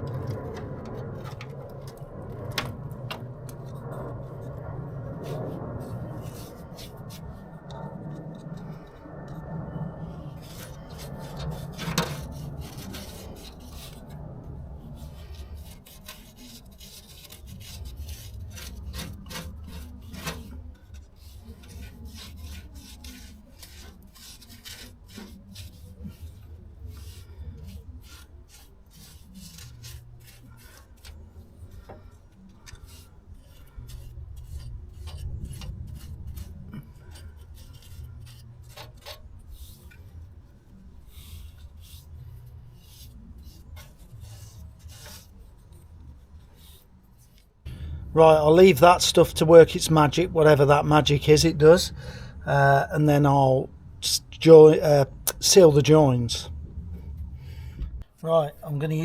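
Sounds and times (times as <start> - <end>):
wire brush scrubbing steel: 0.0 - 47.5, 48.2 - 57.6.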